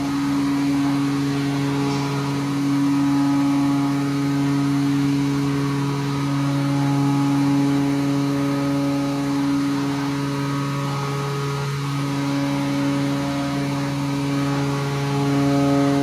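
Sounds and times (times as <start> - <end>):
hydraulic pump humming: 0.0 - 16.0.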